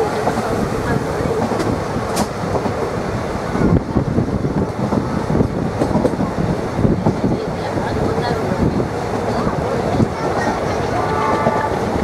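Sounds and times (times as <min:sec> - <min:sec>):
train wheels rumbling and clattering: 0:00.0 - 0:12.0.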